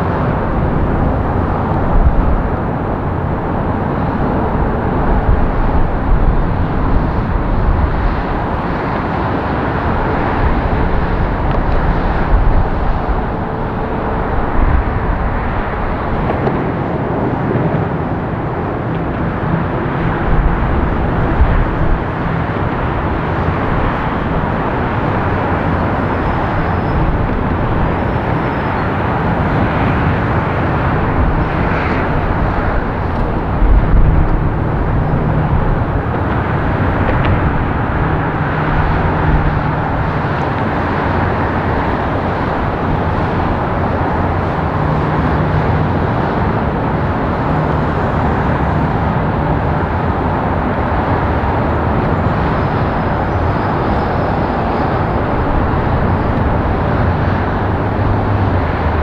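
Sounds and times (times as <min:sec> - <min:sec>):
jet engine roaring: 0:00.0 - 0:59.0.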